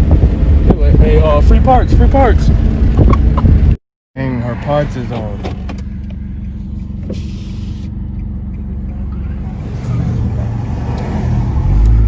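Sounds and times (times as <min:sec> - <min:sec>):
car engine: 0:00.0 - 0:12.0
road rumble: 0:00.0 - 0:12.0.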